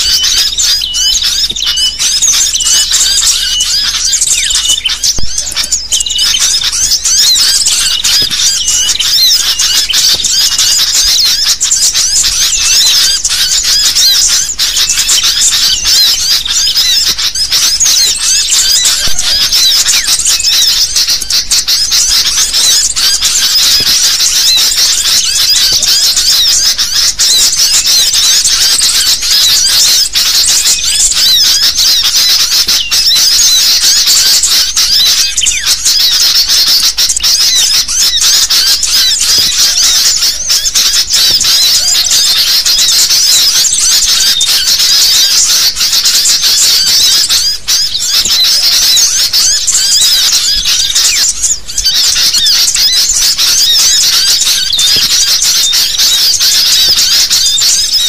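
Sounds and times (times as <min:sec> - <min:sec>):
chorus of birds chattering: 0:00.0 - 0:58.0.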